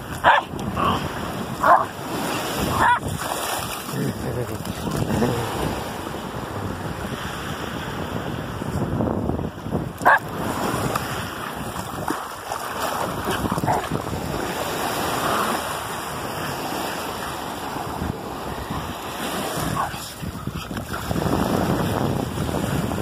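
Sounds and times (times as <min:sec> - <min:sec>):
surf: 0:00.0 - 0:23.0
wind buffeting microphone: 0:00.0 - 0:23.0.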